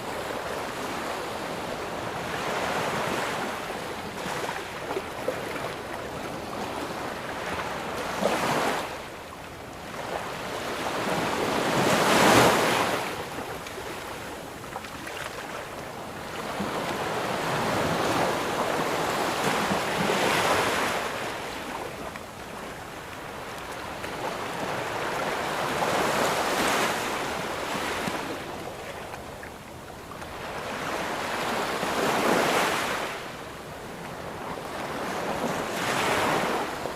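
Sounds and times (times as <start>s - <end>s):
ocean waves breaking on beach: 0.0s - 36.9s.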